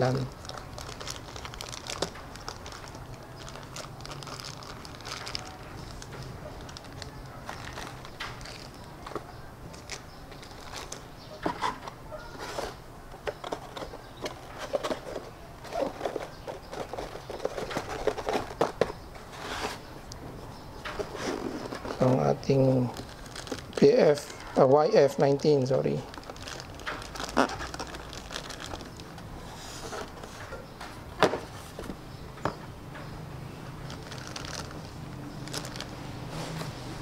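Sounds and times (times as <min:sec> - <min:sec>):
plastic bags crinkling: 0:00.0 - 0:11.7, 0:12.4 - 0:19.8, 0:20.8 - 0:30.5, 0:33.6 - 0:36.2.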